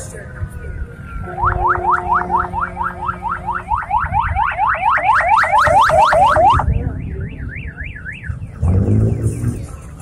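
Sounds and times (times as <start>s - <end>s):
low engine rumble: 0.0s - 10.0s
electronic siren whooping and wailing: 1.2s - 9.7s.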